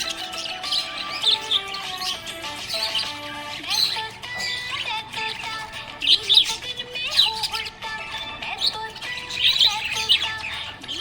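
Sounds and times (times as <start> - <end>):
background music with held notes: 0.0 - 11.0
parrot chirping: 0.0 - 11.0.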